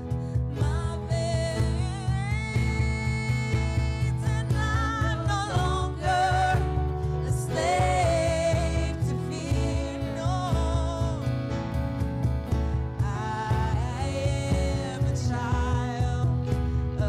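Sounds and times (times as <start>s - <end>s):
keyboard: 0.0s - 17.0s
low bass: 0.0s - 17.0s
women singing with vibrato: 0.0s - 17.0s.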